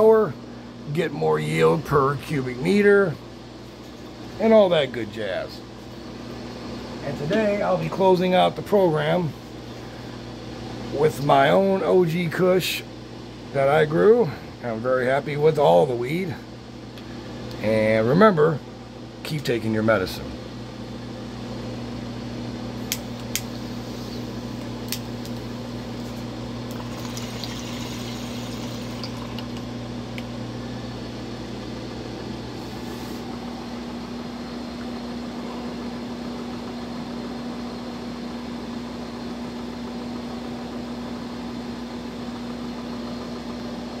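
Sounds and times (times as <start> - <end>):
fans whirring and humming: 0.0 - 44.0.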